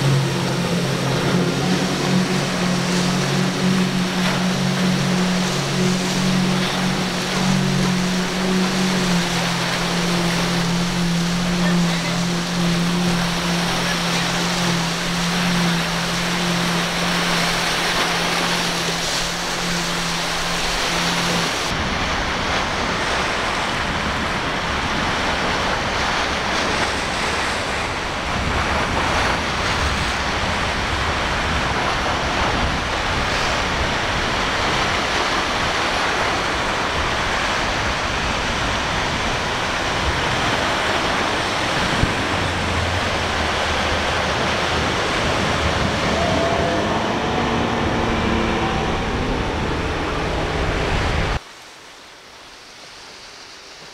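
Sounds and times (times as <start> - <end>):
low engine drone: 0.0 - 51.4
wind buffeting microphone: 0.0 - 51.4
boat engines humming: 0.0 - 53.9
rough water rushing and breaking: 0.0 - 53.9.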